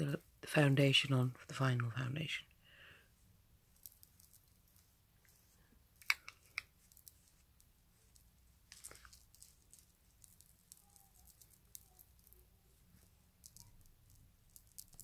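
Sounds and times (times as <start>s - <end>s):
soft rustle: 3.0s - 15.0s.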